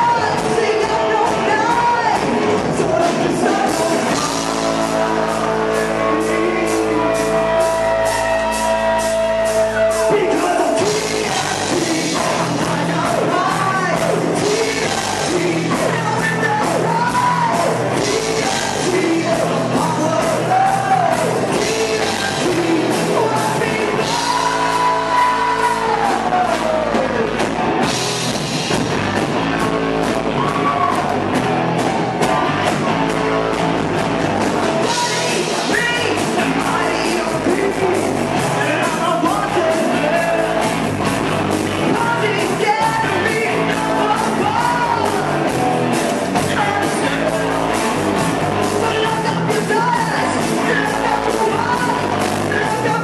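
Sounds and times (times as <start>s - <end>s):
person singing: 0.0s - 27.5s, 34.8s - 40.9s, 41.8s - 53.0s
drums and cymbals: 0.0s - 53.0s
rock band playing live: 0.0s - 53.0s.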